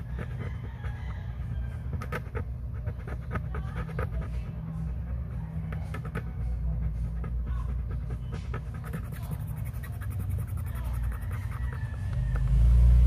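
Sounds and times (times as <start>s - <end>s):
toothpick scraping coin: 0.0s - 12.6s
steady low hum: 0.0s - 13.0s.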